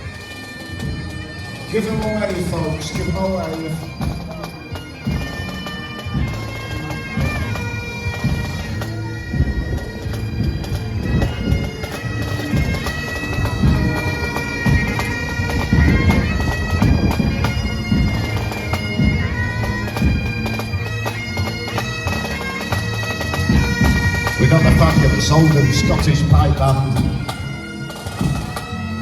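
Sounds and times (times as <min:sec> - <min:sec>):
massed bagpipes playing: 0:00.0 - 0:29.0
drums beating: 0:00.8 - 0:29.0.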